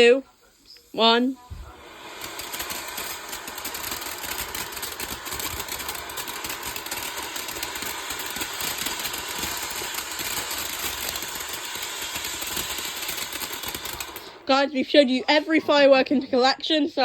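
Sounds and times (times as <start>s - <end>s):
firework fountain fizzing and crackling: 0.9s - 15.9s.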